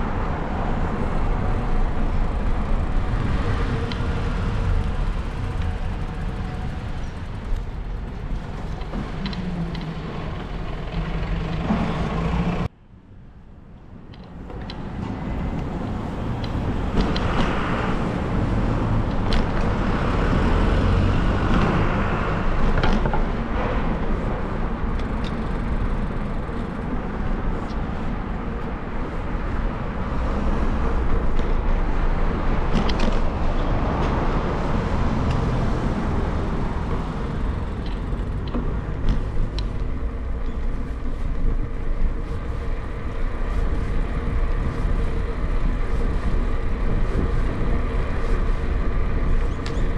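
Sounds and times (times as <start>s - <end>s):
low traffic rumble: 0.0s - 49.9s.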